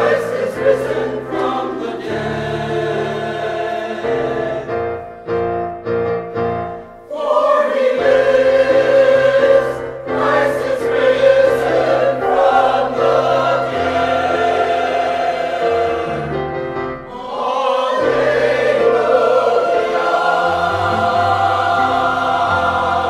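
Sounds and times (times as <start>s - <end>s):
choir singing: 0.0s - 5.3s, 7.0s - 23.0s.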